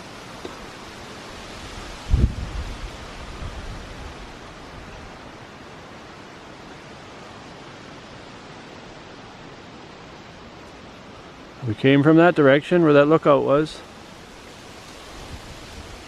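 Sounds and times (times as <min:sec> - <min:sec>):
bubbling creek rushing: 0:00.0 - 0:16.0.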